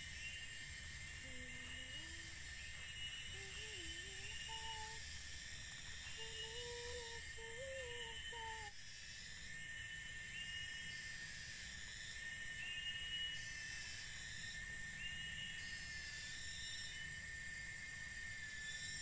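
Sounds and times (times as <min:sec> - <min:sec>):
high insect chorus: 0:00.0 - 0:19.0.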